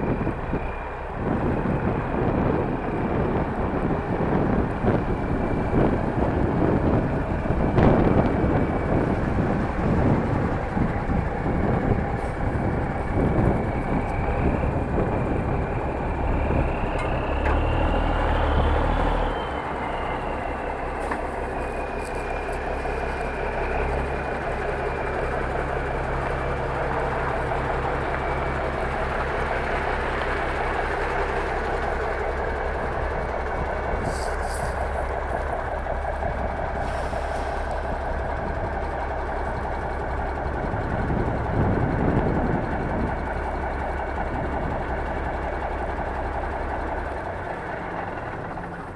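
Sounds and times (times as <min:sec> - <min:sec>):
vehicle engines running: 0:00.0 - 0:48.9.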